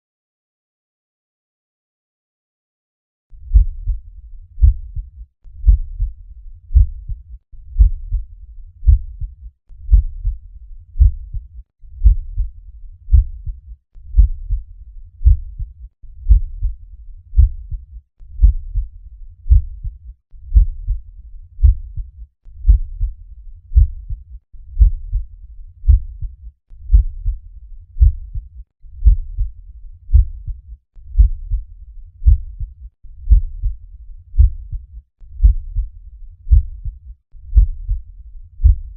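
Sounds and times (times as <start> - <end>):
heartbeat lub-dub: 3.5 - 33.8, 34.4 - 38.0, 38.6 - 38.9.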